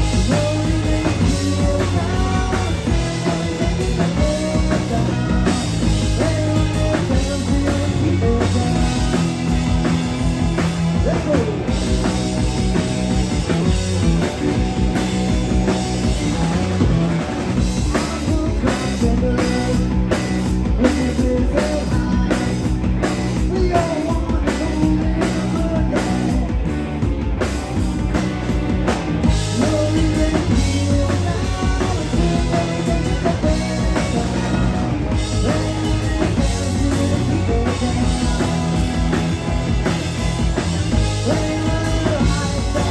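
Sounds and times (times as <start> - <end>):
bass guitar: 0.0 - 42.9
drum kit: 0.0 - 42.9
live rock band playing: 0.0 - 42.9.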